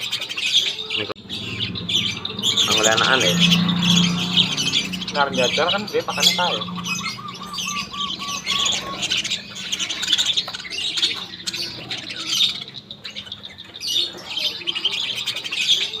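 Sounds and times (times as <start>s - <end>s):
budgerigars chattering and squawking: 0.0s - 16.0s.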